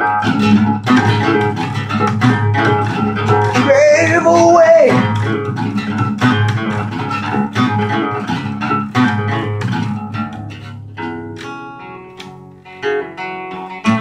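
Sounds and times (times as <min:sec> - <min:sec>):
picked acoustic guitar notes: 0:00.0 - 0:14.0.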